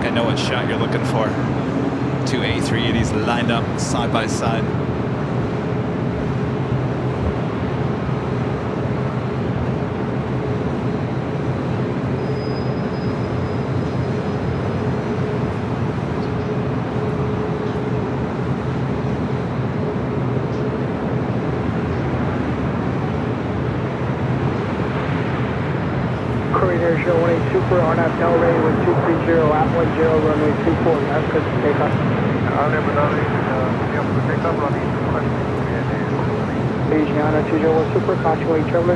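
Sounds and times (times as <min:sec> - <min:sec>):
distant jet engines rumbling: 0:00.0 - 0:38.9.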